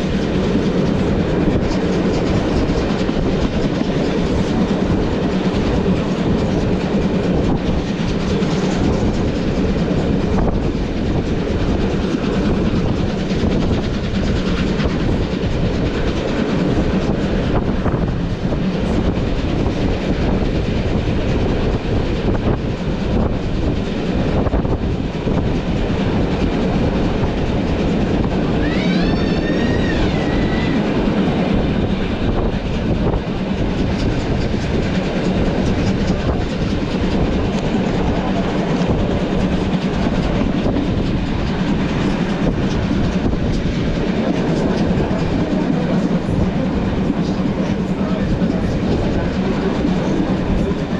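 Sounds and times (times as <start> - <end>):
steam train rumbling over rails: 0.0 - 50.9.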